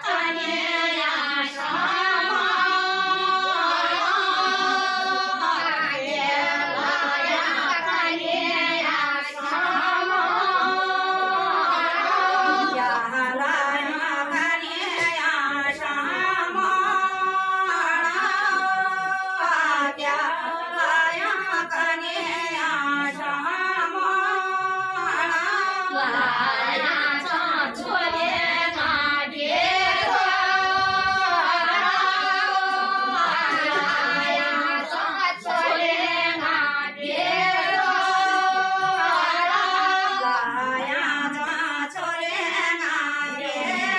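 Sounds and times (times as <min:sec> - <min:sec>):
women singing in unison: 0:00.0 - 0:43.9.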